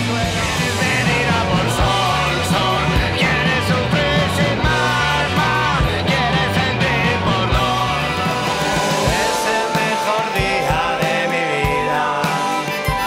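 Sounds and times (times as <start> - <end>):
bass line: 0.0 - 13.0
drum beat: 0.0 - 13.0
person singing: 0.0 - 13.0.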